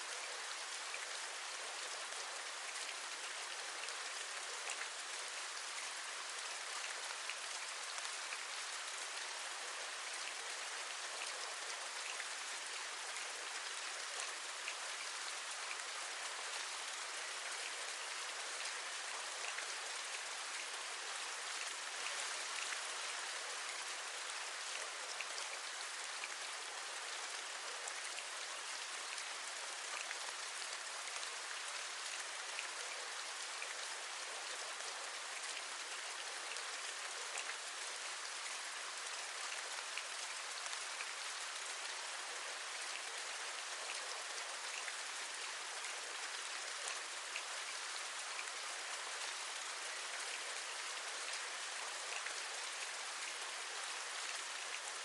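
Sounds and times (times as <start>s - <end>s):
hiss of rainfall: 0.0s - 55.0s.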